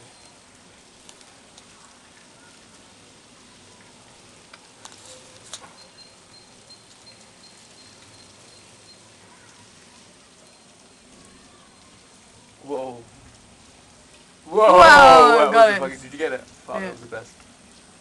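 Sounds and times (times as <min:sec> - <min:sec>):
rain patter: 0:00.0 - 0:18.0.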